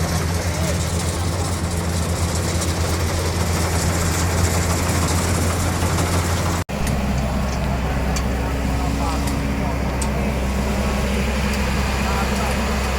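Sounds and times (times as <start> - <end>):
harvester engine humming: 0.0 - 12.9.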